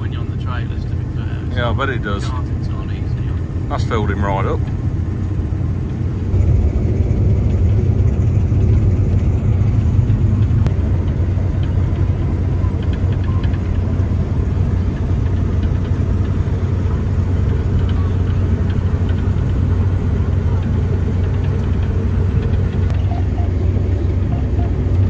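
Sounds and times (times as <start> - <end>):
combine harvester droning: 0.0 - 25.0.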